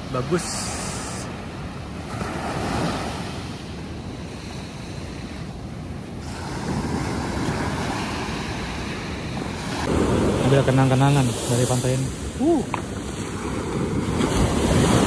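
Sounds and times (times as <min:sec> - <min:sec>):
ocean surf on beach: 0:00.0 - 0:15.0
wind on microphone: 0:02.2 - 0:15.0.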